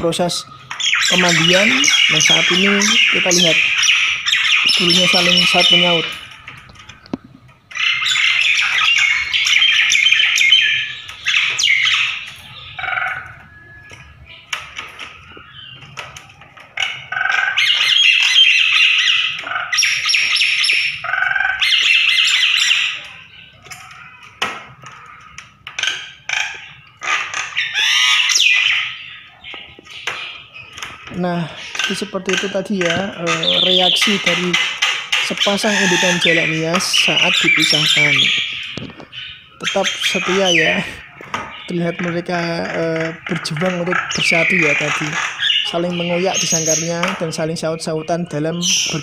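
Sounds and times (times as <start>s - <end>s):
mynas calling: 0.0s - 49.0s.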